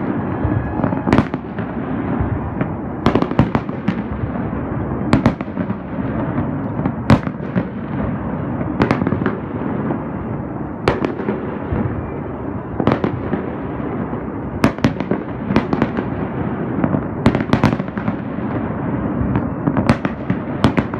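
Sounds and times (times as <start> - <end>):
firework bangs: 0.0 - 20.9
rumble and crackle of fireworks: 0.0 - 20.9.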